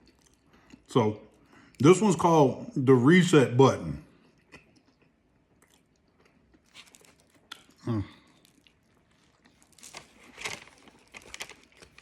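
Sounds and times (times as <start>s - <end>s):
person chewing a sandwich: 0.0s - 1.8s, 4.1s - 12.0s.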